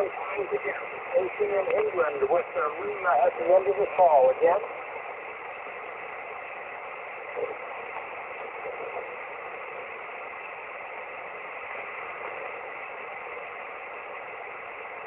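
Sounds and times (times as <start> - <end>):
radio receiver hiss: 0.0 - 15.0.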